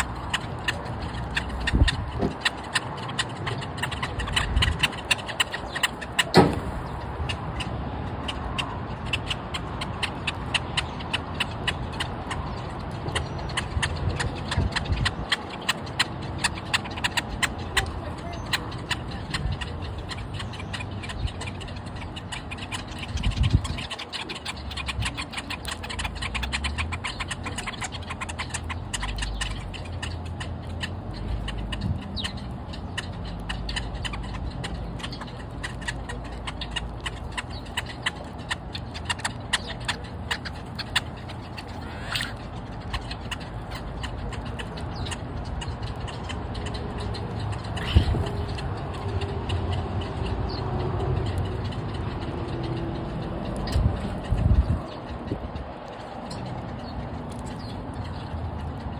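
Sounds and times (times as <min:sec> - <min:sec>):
birds pecking on pavement: 0:00.0 - 0:58.9.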